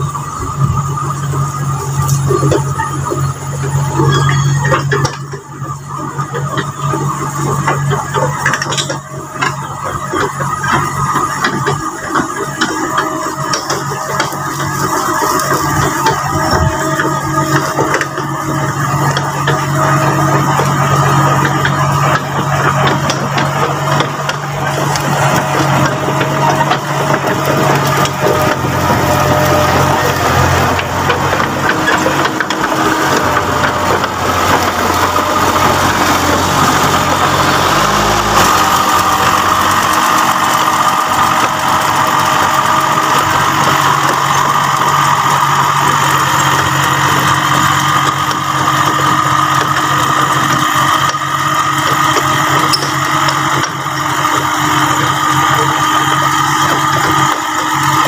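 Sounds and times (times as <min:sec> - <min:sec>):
crawler tracks crunching: 0:00.0 - 0:58.0
diesel engine running: 0:00.0 - 0:58.0
steady higher whine: 0:00.0 - 0:58.0.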